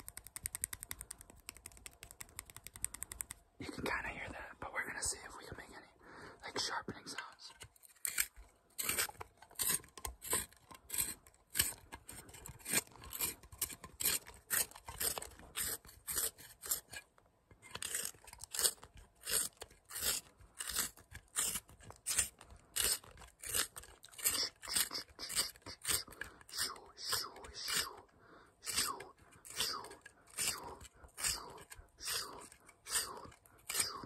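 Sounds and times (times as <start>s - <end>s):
pencil sharpener shaving wood: 0.0s - 3.4s, 6.6s - 34.0s.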